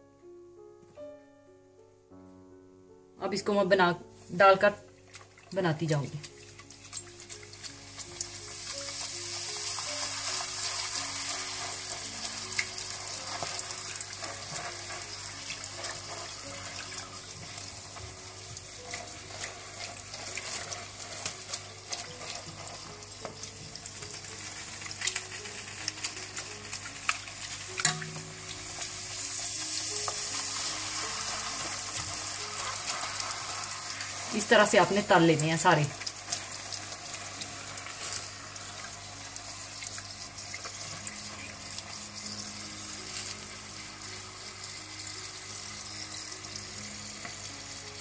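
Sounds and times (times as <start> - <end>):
soft background music: 0.0 - 48.0
dough sizzling in hot oil: 4.2 - 48.0.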